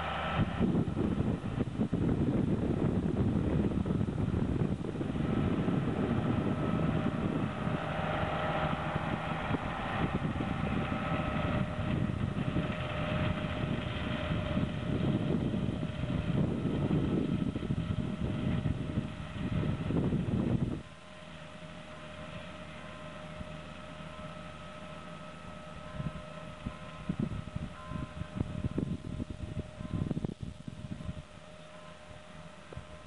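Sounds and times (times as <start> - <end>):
faint steady whine: 0.0 - 33.0
tractor engine under load: 4.7 - 33.0.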